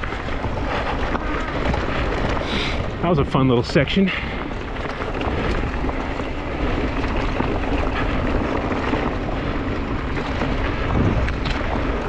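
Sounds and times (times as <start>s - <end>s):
mountain bike rattling on rocks: 0.0s - 12.0s.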